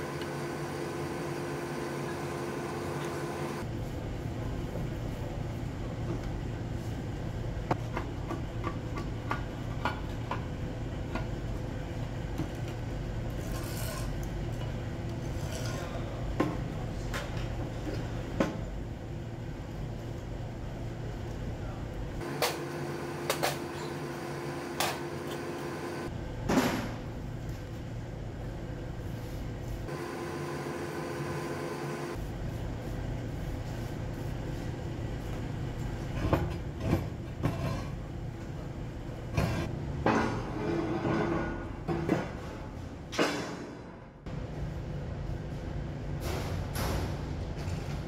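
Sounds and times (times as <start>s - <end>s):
workshop hum: 0.0s - 48.0s.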